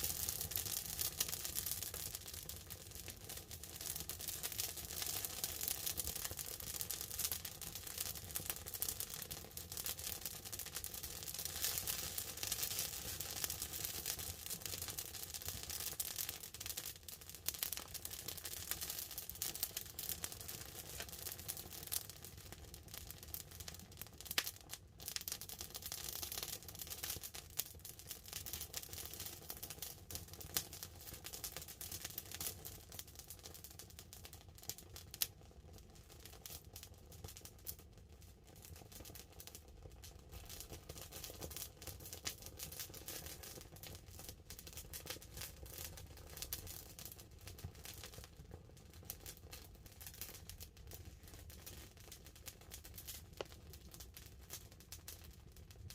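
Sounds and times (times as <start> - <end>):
campfire crackling and popping: 0.0 - 35.4, 36.2 - 37.8, 38.4 - 55.9
light rain on a tarp: 0.0 - 55.9.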